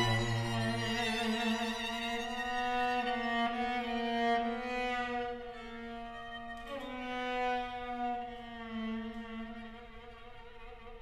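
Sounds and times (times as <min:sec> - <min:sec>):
string quartet sustained notes: 0:00.0 - 0:11.0.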